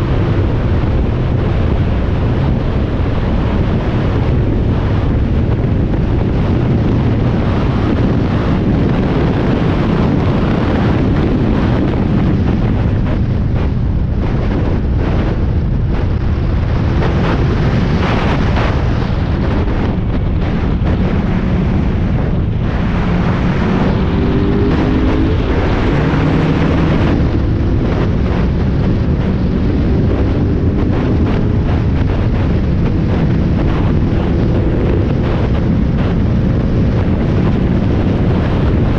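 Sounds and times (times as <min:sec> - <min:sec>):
race car engine at speed: 0:00.0 - 0:38.9
wind buffeting microphone: 0:00.0 - 0:38.9.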